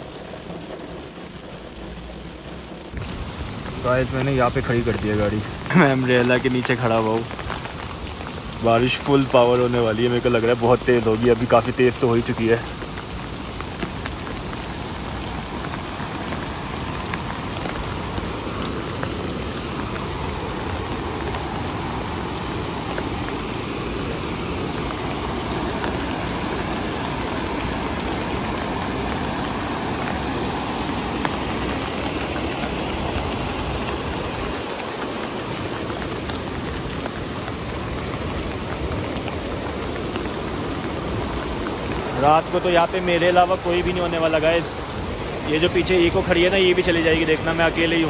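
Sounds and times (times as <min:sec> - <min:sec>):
rain on an umbrella: 0:00.0 - 0:48.0
river rushing: 0:00.0 - 0:48.0.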